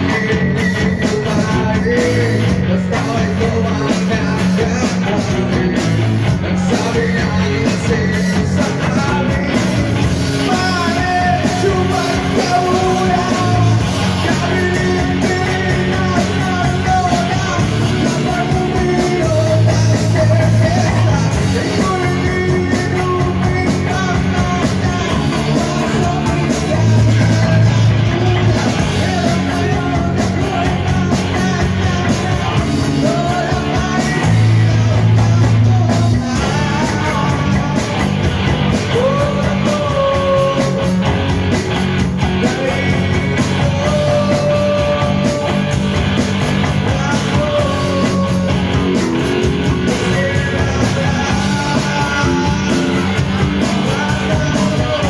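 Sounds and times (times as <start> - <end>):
person singing into a microphone: 0.0 - 41.6, 42.2 - 55.0
rock band playing loudly: 0.0 - 55.0.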